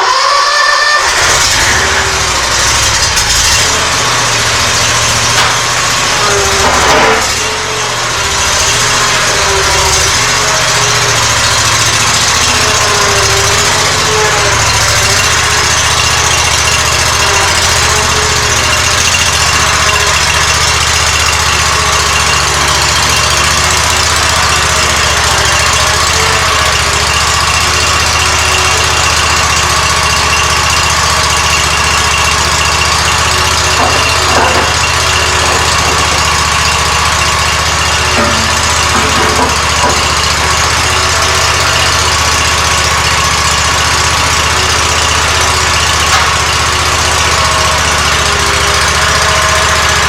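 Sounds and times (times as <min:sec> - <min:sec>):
mower engine running: 0:00.0 - 0:50.0.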